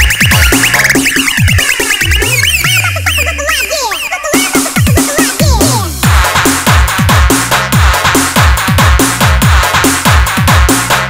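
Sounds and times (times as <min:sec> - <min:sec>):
electronic breakbeat dance music: 0:00.0 - 0:11.0.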